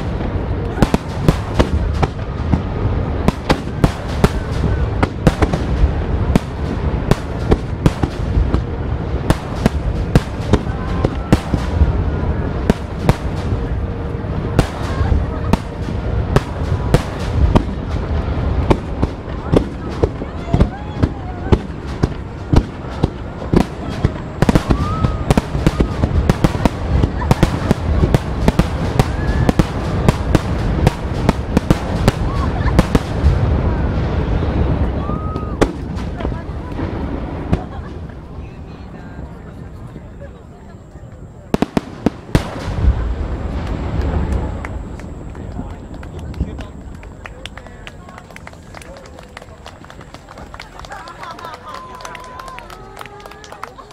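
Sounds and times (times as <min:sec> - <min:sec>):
fireworks bangs: 0:00.0 - 0:40.4, 0:41.0 - 0:53.9
low rumble of bursts: 0:00.0 - 0:53.9.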